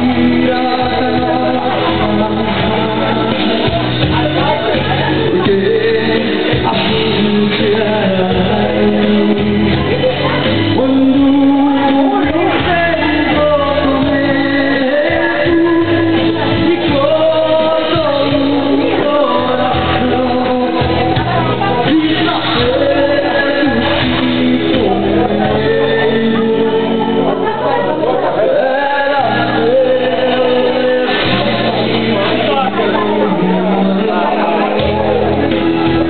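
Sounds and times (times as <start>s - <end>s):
instrumental accompaniment with bass: 0.0s - 36.0s
man singing into a microphone: 0.0s - 36.0s.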